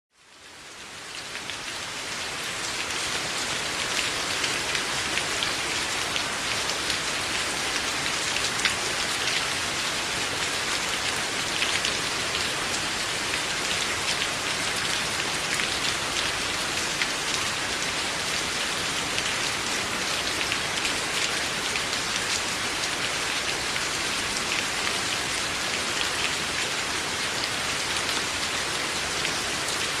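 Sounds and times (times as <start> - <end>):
steady rain falling: 0.1 - 30.0.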